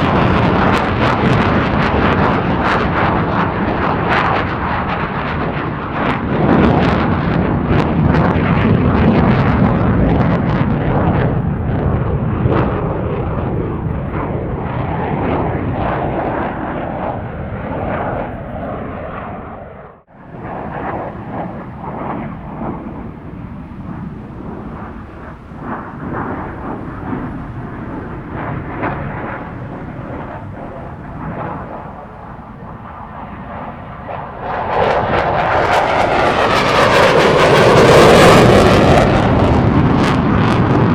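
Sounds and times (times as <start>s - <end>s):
fighter jet roar with crackle: 0.0s - 40.9s.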